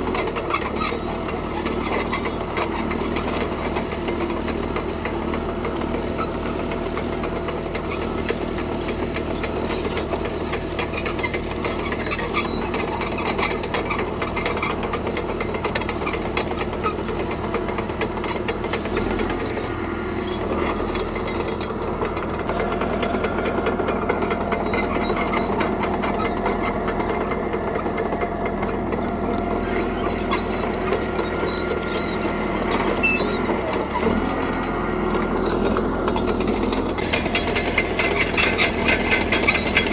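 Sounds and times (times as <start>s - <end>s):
bulldozer diesel engine running: 0.0s - 39.9s
steel tracks clicking and squeaking: 0.0s - 39.9s.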